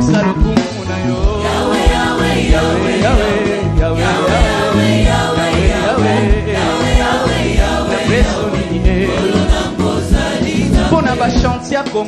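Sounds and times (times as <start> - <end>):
bass line: 0.0 - 11.7
steady drum beat: 0.0 - 12.0
choir singing: 1.0 - 11.6.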